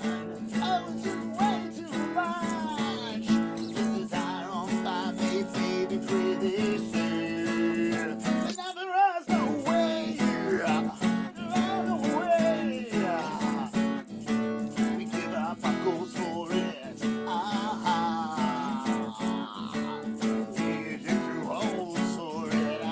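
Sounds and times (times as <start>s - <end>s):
strummed acoustic guitar: 0.0s - 22.9s.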